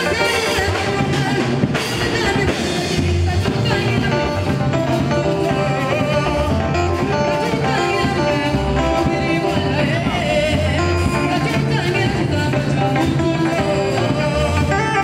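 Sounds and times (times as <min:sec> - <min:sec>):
song with singing and bass: 0:00.0 - 0:15.0.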